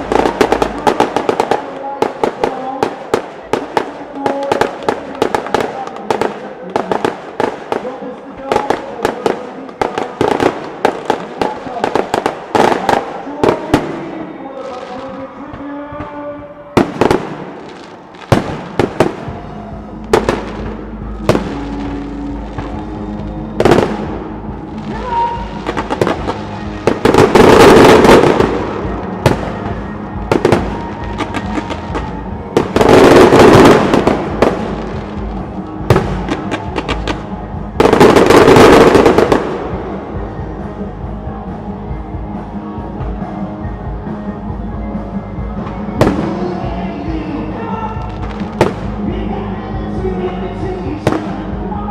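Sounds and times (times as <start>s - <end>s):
firework bangs: 0.0s - 16.1s, 16.7s - 40.7s, 45.6s - 46.8s, 48.0s - 49.0s
crackling firework barrages: 0.0s - 41.4s, 45.4s - 49.1s
music playing: 0.0s - 51.9s.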